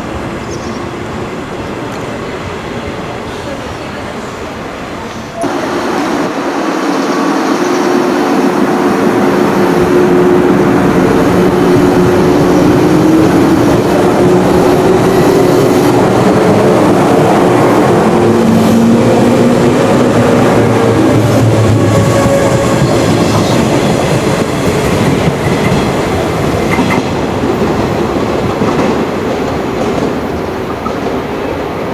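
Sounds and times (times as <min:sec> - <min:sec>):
wheels rumbling on rails: 0:05.0 - 0:31.9.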